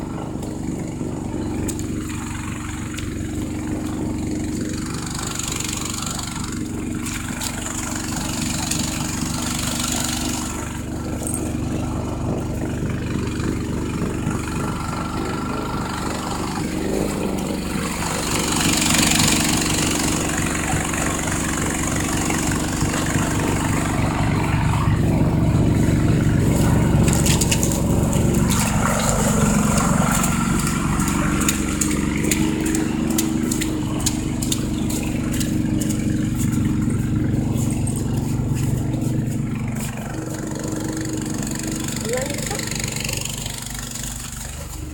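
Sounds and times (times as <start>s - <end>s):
snowblower engine running: 0.0s - 44.9s.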